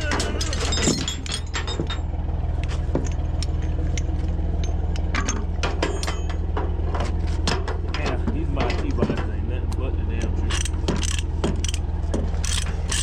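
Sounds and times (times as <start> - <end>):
metallic clinks and rattles: 0.0 - 9.3, 10.2 - 13.0
diesel engine idling: 0.0 - 13.0.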